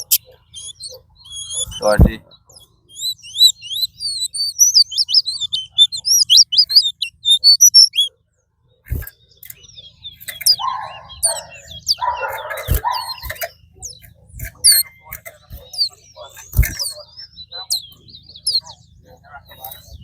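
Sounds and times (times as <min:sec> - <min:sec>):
finch singing: 0:00.0 - 0:20.0
short bird chirps: 0:00.0 - 0:20.0.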